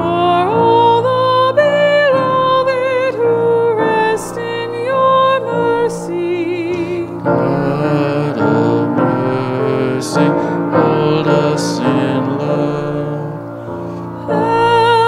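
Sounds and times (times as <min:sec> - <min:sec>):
piano chords: 0:00.0 - 0:15.0
slow church singing: 0:00.0 - 0:15.0.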